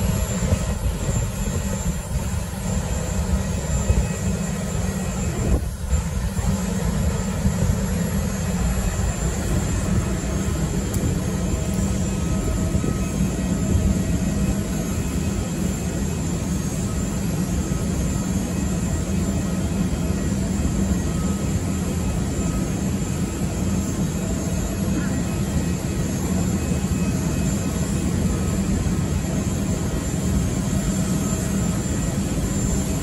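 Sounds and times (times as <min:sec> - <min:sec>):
jet engine drone: 0:00.0 - 0:33.0.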